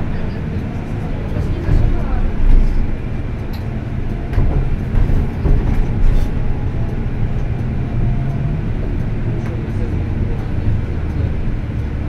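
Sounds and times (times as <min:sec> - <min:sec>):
bus engine drone: 0:00.0 - 0:12.0
body rattles and clicks: 0:00.2 - 0:12.0.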